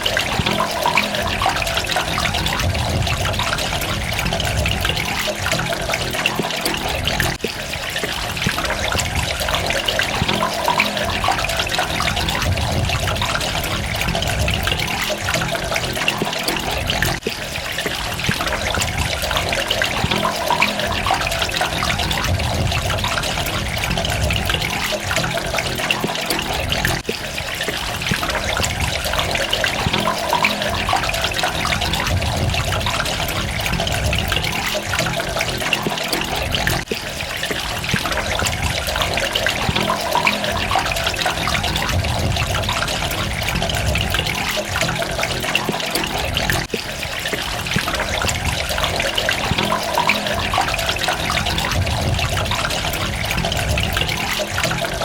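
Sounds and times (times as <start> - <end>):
water running and splashing: 0.0 - 55.0.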